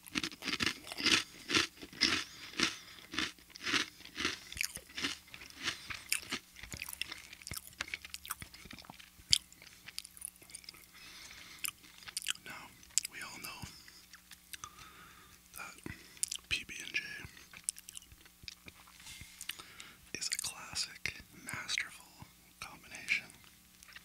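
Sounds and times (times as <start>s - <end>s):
crunchy cracker chewing: 0.0s - 20.8s, 23.0s - 24.0s.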